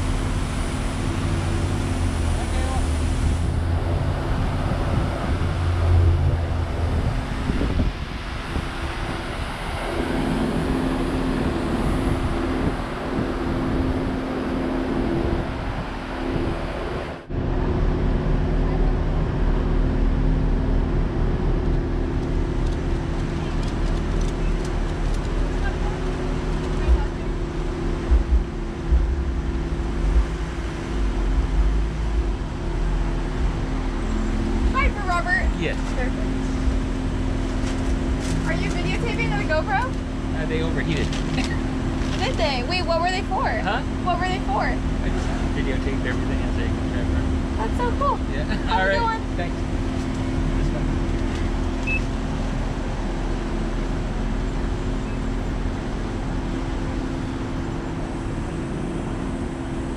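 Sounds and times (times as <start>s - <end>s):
car engine idling: 0.0s - 59.9s
wind rumbling on microphone: 0.0s - 59.9s.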